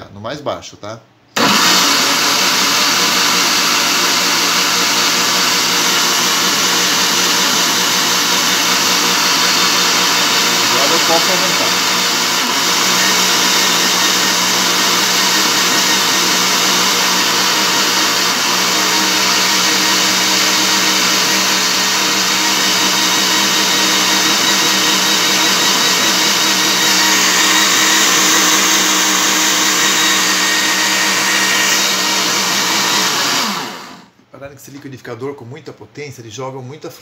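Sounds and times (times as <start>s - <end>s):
blender running: 1.4s - 34.1s.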